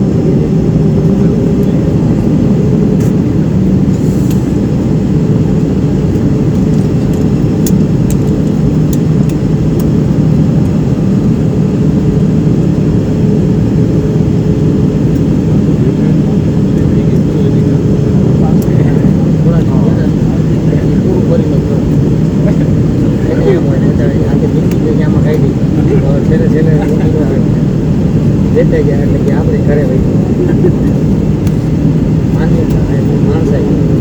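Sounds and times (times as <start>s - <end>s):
jet engines droning in cabin: 0.0s - 34.0s.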